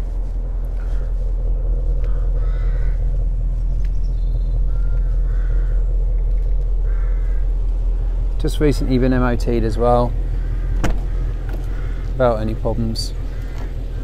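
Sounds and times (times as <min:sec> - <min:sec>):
bird calling: 0:00.0 - 0:14.0
car engine idling: 0:00.0 - 0:14.0.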